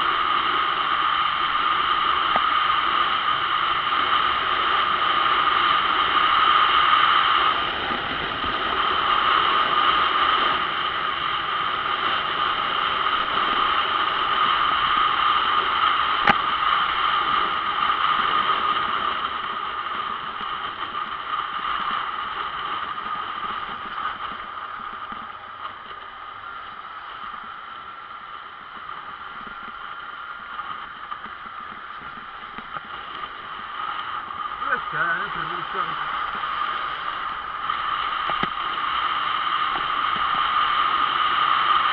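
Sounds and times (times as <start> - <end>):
scooter and road noise: 0.0 - 41.9
wind on microphone: 0.0 - 41.9.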